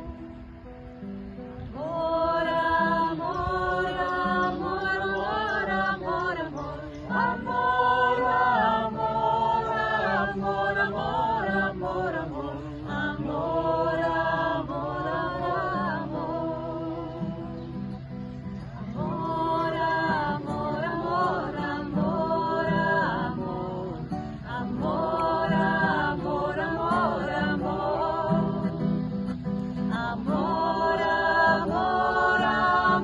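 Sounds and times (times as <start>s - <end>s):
group singing a slow chant: 1.6s - 33.0s
strummed acoustic guitar: 2.4s - 33.0s.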